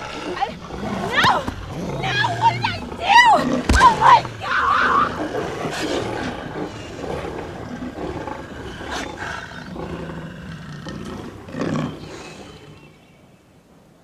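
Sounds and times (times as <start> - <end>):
beast growling: 0.0 - 12.7.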